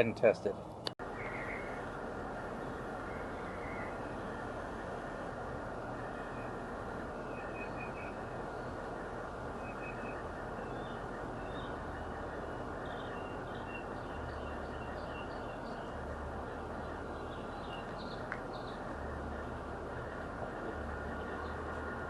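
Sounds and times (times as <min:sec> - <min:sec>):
steady background noise: 0:00.0 - 0:22.0
small birds chirping: 0:01.0 - 0:05.0, 0:05.8 - 0:22.0.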